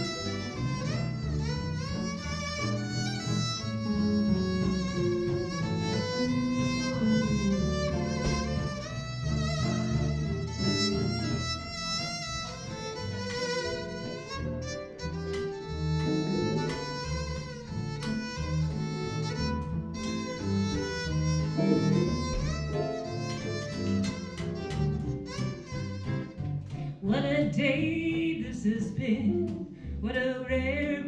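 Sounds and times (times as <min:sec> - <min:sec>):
violin melody with vibrato: 0:00.0 - 0:27.0
guitars: 0:00.0 - 0:31.0
plucked upright bass: 0:00.0 - 0:31.0.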